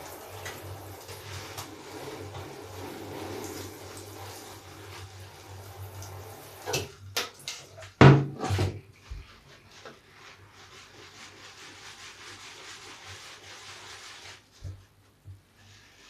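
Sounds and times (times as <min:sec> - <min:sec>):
wet soapy sponge squishing: 0:00.0 - 0:06.7, 0:08.8 - 0:16.0.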